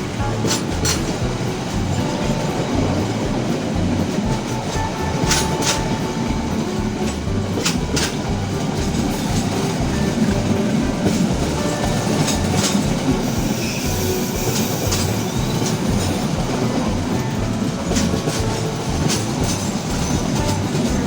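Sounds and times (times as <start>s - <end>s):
sharp rail clicks: 0.0s - 21.0s
train wheels clattering on rails: 0.0s - 21.0s.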